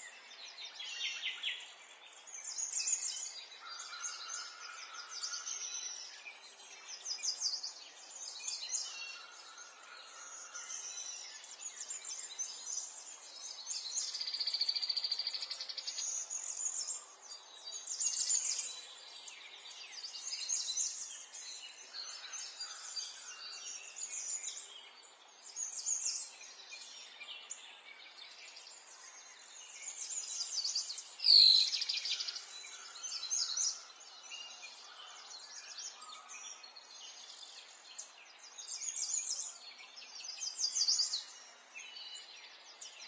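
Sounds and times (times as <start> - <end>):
songbirds chirping and singing: 0.0 - 43.0.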